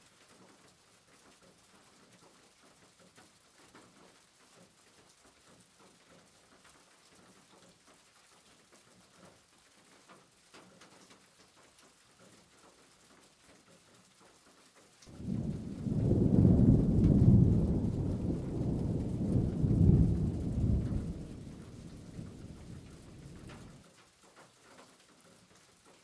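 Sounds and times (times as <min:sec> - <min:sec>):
faint crackly hiss: 0:00.0 - 0:26.0.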